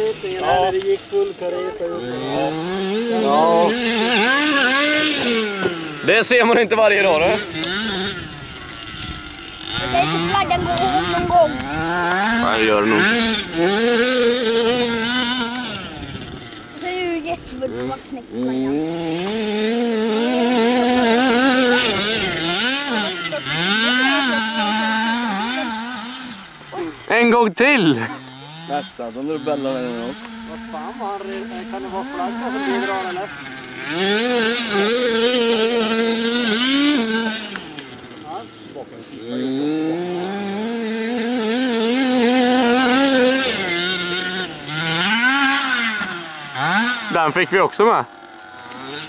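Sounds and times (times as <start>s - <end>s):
small two-stroke engine revving: 0.0s - 49.0s.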